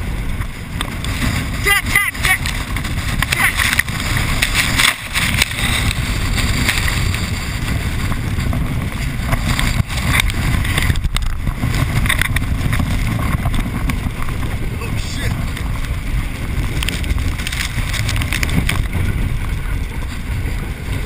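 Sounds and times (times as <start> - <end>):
water rushing and splashing: 0.0 - 21.0
wind buffeting microphone: 0.0 - 21.0.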